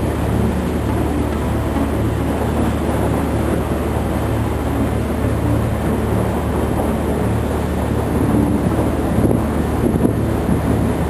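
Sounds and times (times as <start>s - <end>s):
boat engine droning: 0.0s - 11.0s
constant rushing noise: 0.0s - 11.0s.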